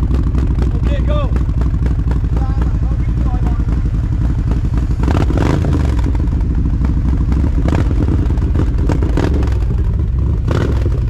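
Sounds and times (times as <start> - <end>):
motorcycle engine idling with revs: 0.0 - 11.0.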